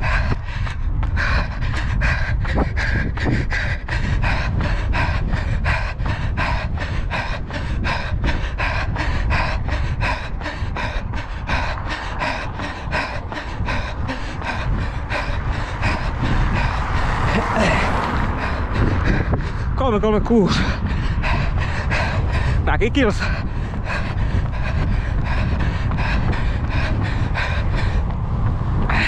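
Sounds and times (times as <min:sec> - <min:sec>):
running footfalls: 0:00.0 - 0:19.7, 0:20.4 - 0:29.0
low rumble: 0:00.0 - 0:29.0
runner panting: 0:00.0 - 0:29.0.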